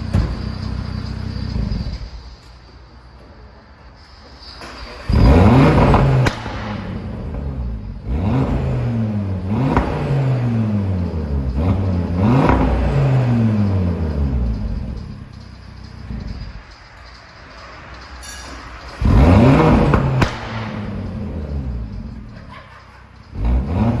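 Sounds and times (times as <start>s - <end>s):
car engine revving: 0.0s - 2.6s, 4.4s - 24.0s.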